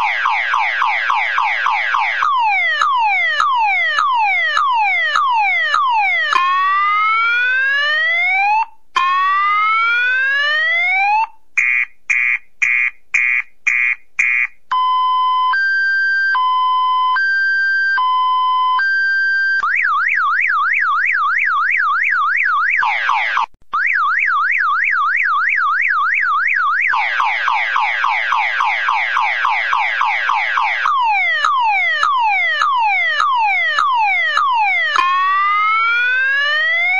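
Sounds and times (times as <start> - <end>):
car alarm siren: 0.0 - 36.9.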